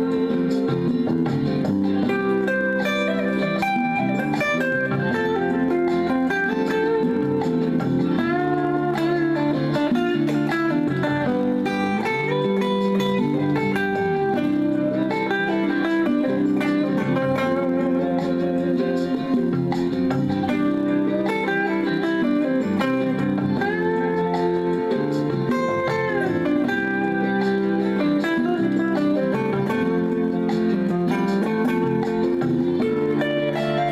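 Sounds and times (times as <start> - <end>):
backing track: 0.0 - 33.9
electric guitar lead melody: 0.0 - 33.9.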